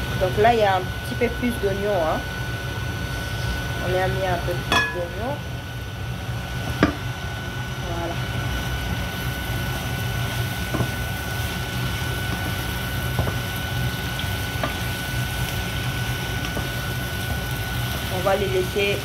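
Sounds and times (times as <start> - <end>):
constant low hum: 0.0 - 19.0
vegetables sizzling in a frying pan: 0.0 - 19.0.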